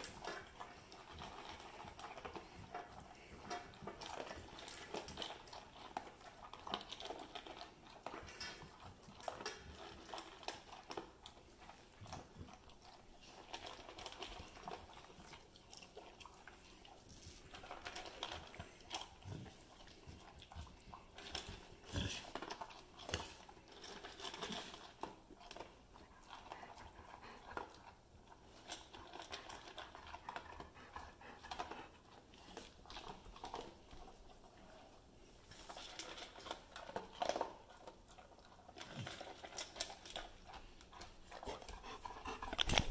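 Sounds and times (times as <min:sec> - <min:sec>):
dogs crunching dry kibble: 0:00.0 - 0:42.9.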